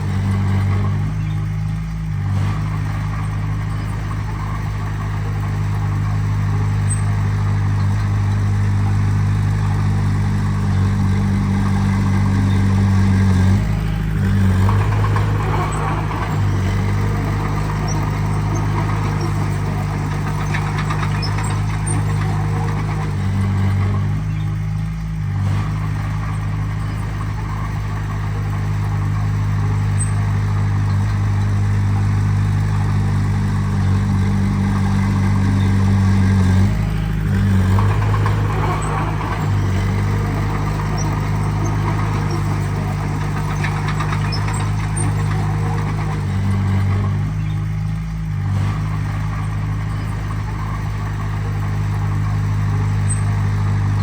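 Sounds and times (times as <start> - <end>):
diesel engine running at low speed: 0.0 - 54.0.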